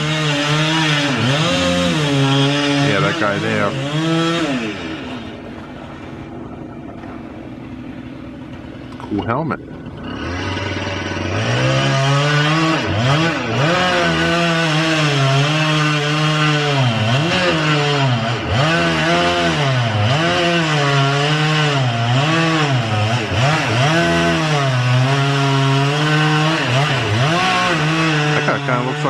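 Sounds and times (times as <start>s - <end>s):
chainsaw cutting into tree: 0.0s - 29.0s.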